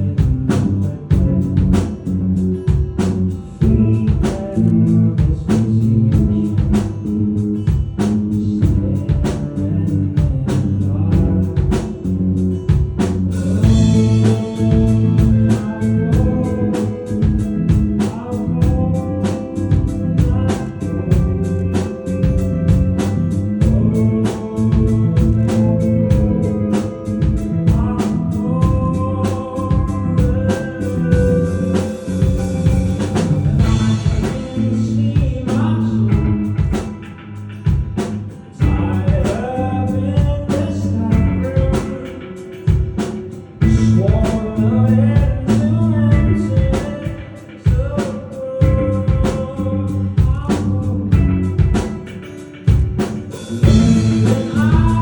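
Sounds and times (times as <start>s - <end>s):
drum kit: 0.0s - 55.0s
guitar: 0.0s - 55.0s
person singing lead vocal: 0.0s - 55.0s.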